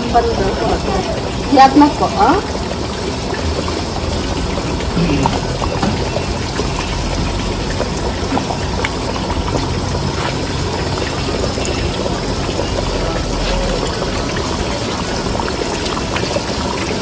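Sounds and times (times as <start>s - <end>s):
pot boiling and bubbling: 0.0s - 17.0s.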